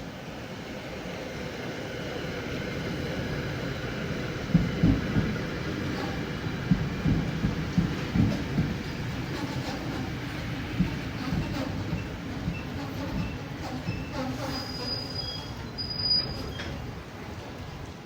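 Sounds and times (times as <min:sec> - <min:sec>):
diesel train rumble: 0:00.0 - 0:18.0.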